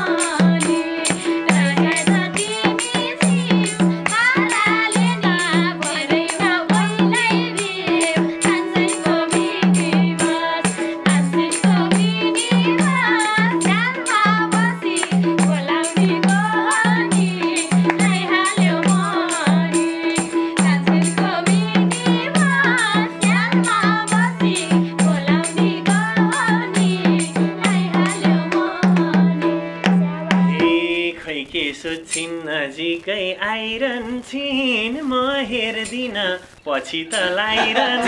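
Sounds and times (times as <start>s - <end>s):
hand drum beat: 0.0s - 31.0s
harmonium: 0.0s - 32.4s
small hand cymbals: 0.0s - 32.8s
voices singing folk melody: 0.0s - 38.0s.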